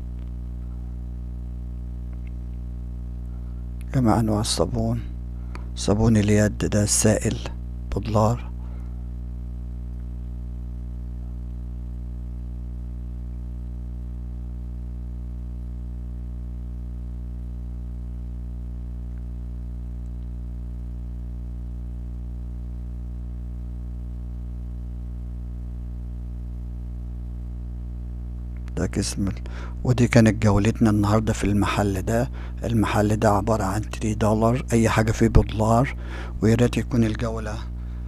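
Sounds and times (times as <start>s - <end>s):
low pulsing hum: 0.0s - 38.0s.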